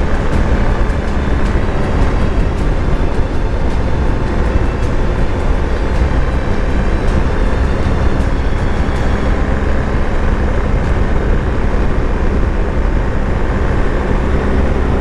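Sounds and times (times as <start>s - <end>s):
motorcycle engine drone: 0.0s - 15.0s
wind rushing on microphone: 0.0s - 15.0s.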